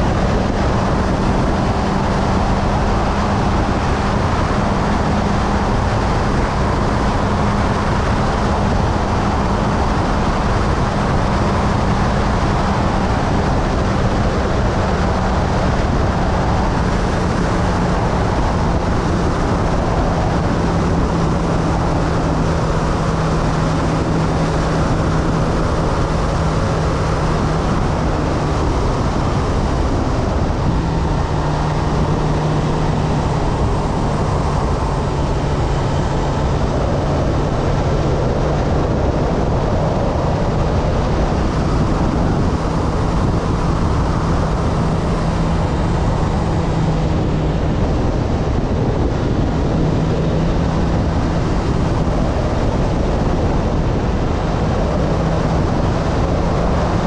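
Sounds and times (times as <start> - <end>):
motorcycle engine running: 0.0 - 57.0
road noise: 0.0 - 57.0
wind rush on microphone: 0.0 - 57.0.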